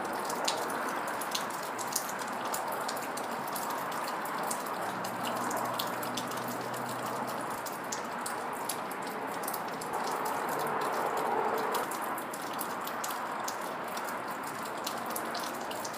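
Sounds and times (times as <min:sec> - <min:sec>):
raindrops ticking on surface: 0:00.0 - 0:15.9
steady rain falling: 0:00.0 - 0:15.9.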